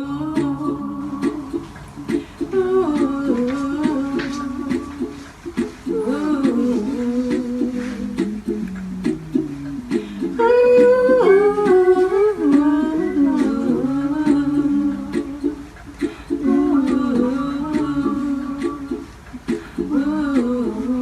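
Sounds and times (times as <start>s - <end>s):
person humming a melody: 0.0s - 5.2s, 5.8s - 21.0s
plucked ukulele: 0.0s - 21.0s.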